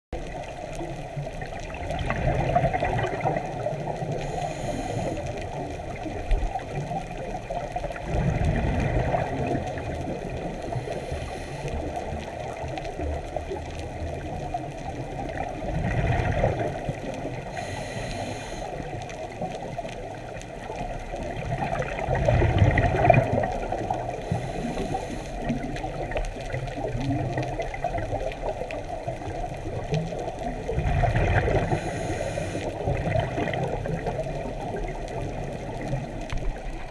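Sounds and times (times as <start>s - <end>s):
low water rumble: 0.1s - 36.9s
gush of exhaled bubbles: 0.2s - 4.4s, 5.2s - 17.8s, 18.8s - 36.9s.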